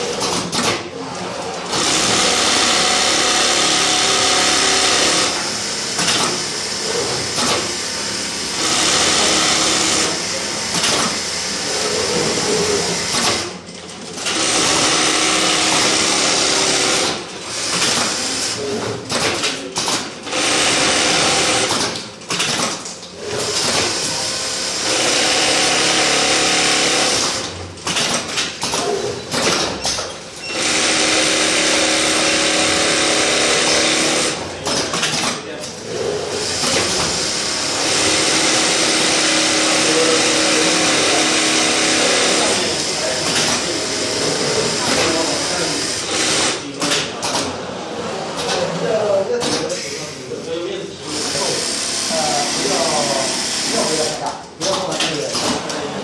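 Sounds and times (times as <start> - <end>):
sewing machine stitching: 0.0 - 47.6, 51.0 - 55.8.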